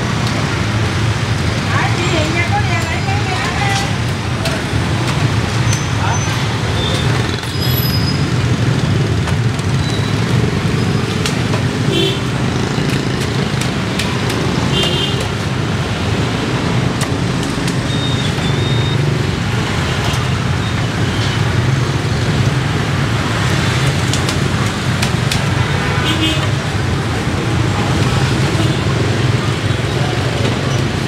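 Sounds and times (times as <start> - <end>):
street traffic: 0.0 - 31.0.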